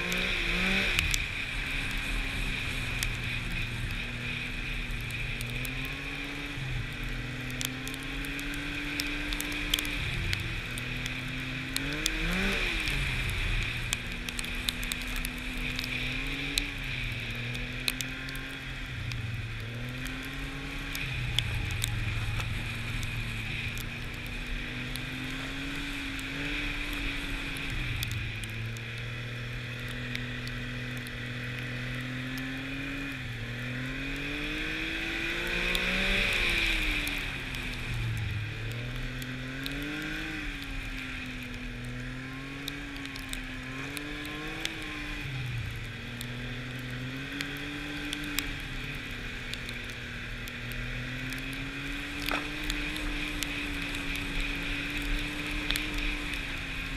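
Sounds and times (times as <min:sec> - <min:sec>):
hiss of track and wind: 0:00.0 - 0:56.9
snowmobile engine running: 0:00.0 - 0:56.9
small clicks: 0:00.9 - 0:29.1, 0:35.7 - 0:56.9.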